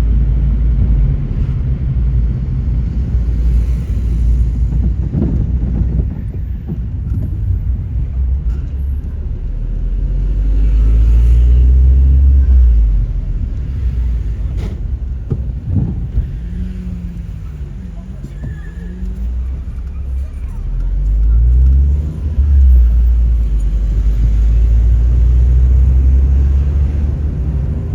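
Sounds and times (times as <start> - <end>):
car engine and tyres rumble: 0.0 - 27.9.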